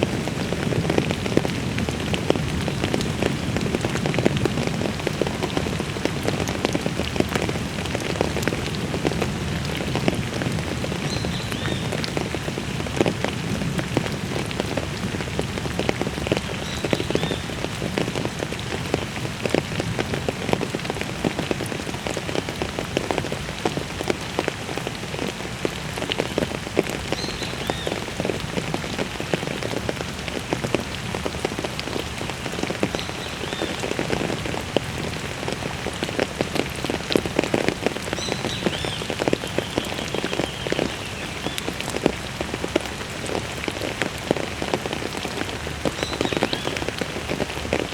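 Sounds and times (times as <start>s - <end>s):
heavy rain on hard surfaces: 0.0s - 47.9s.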